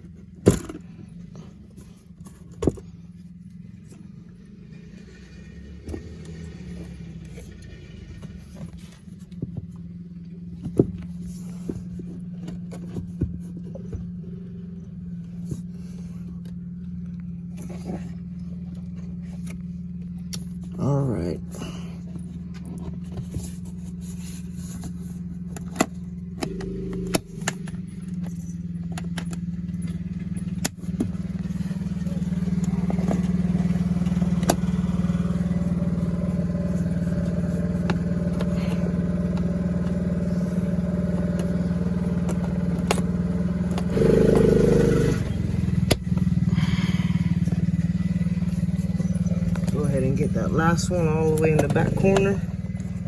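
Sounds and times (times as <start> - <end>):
engine running: 0.0 - 53.0.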